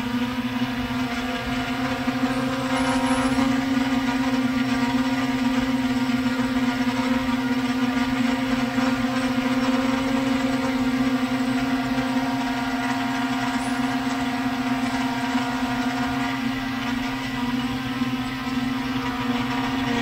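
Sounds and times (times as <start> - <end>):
drone propellers humming: 0.0 - 20.0.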